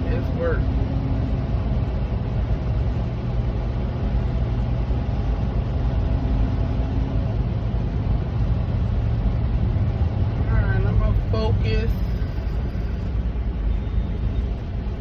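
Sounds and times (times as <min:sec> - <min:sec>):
road noise: 0:00.0 - 0:15.0
truck diesel engine drone: 0:00.0 - 0:15.0.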